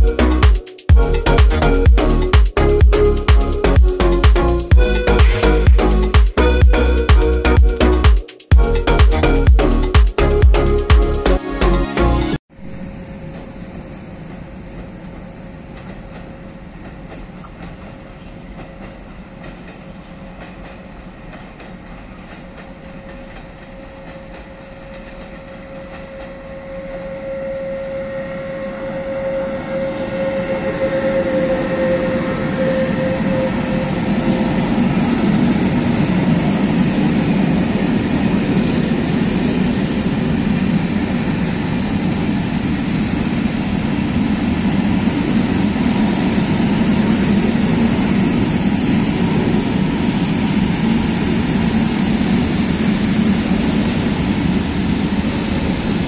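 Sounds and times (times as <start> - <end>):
electric locomotive passing: 0.0 - 56.0.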